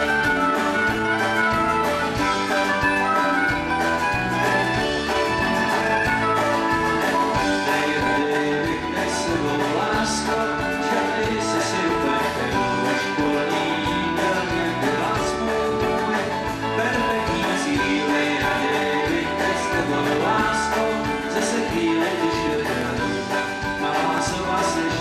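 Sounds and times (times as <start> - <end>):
bass guitar: 0.0 - 25.0
drum kit: 0.0 - 25.0
electric guitars: 0.0 - 25.0
mandolin: 0.0 - 25.0.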